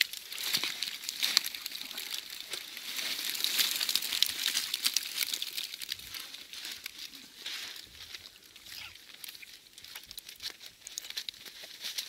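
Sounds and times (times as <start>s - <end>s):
net of live fish crackling: 0.0s - 12.0s.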